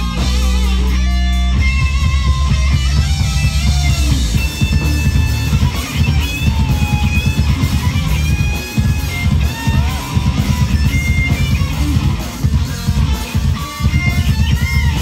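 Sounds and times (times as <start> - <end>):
electric guitars: 0.0 - 15.0
pounding bass and drums: 0.0 - 15.0.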